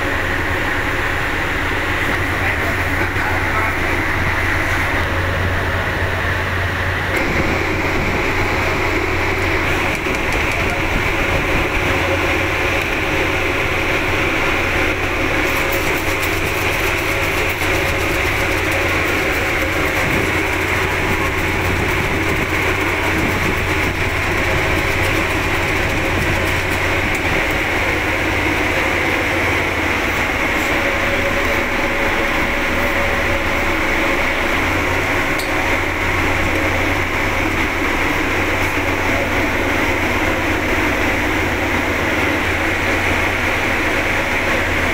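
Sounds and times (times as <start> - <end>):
ferry engine droning: 0.0 - 44.9.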